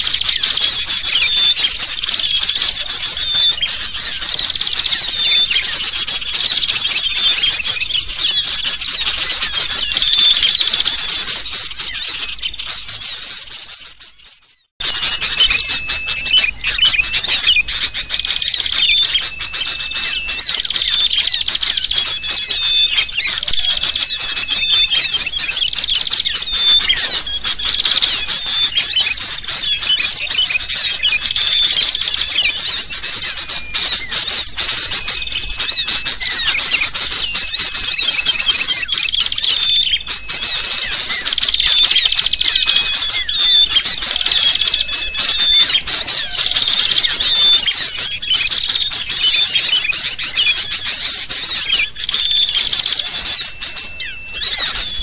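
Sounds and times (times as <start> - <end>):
bulbuls chirping and squawking: 0.0 - 55.0
small birds chattering: 0.0 - 55.0.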